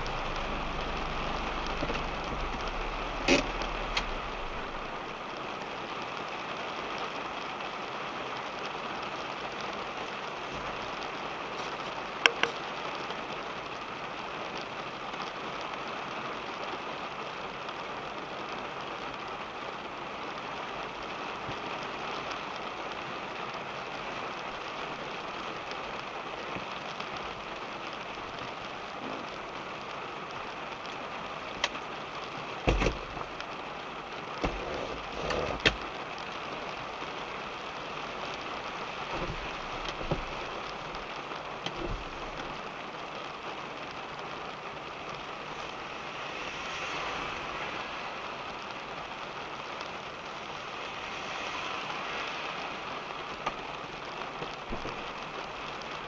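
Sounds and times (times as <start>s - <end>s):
rain falling on a car: 0.0s - 56.0s.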